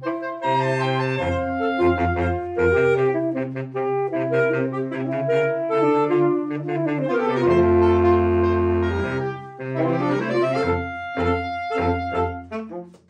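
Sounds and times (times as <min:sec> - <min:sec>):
saxophone quartet playing: 0:00.0 - 0:13.0.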